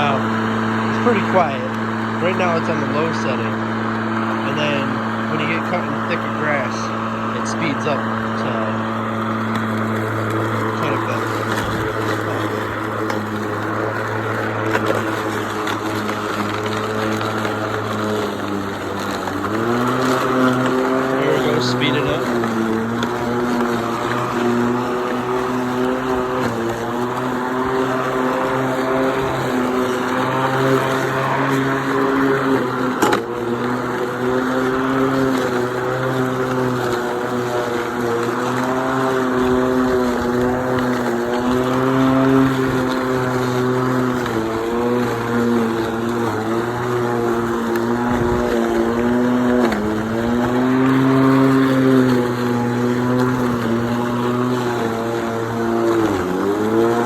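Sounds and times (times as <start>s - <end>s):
electric lawn mower cutting grass: 0.0s - 57.0s.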